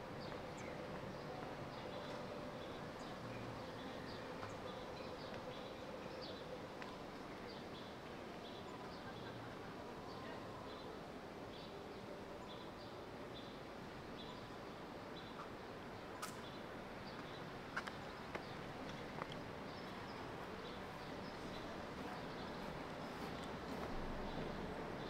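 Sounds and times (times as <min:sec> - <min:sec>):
city background hum: 0:00.0 - 0:25.0.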